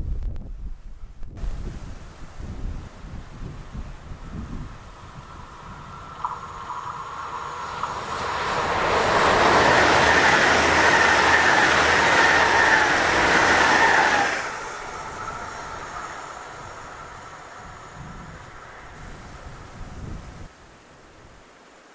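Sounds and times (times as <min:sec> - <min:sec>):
train passing at speed: 0:02.2 - 0:21.9.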